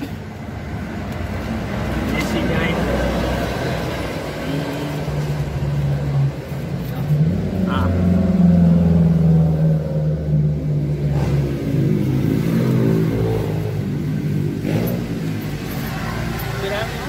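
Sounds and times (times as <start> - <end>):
vehicle engine revving: 1.2 - 17.0.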